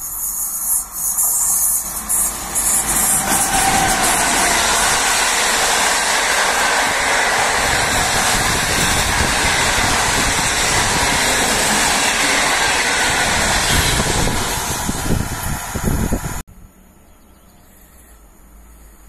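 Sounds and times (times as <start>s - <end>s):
passenger train passing at speed: 0.0s - 16.5s.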